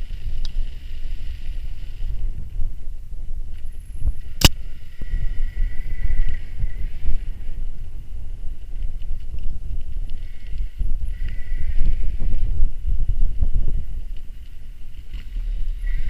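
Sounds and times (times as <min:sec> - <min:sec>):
low rumble of bike: 0:00.0 - 0:16.0
wind buffeting microphone: 0:00.0 - 0:16.0.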